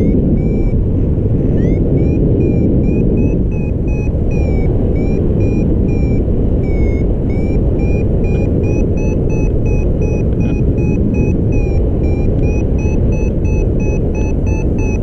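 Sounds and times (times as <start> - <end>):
variometer beeping: 0.0 - 15.0
wind rushing over microphone: 0.0 - 15.0.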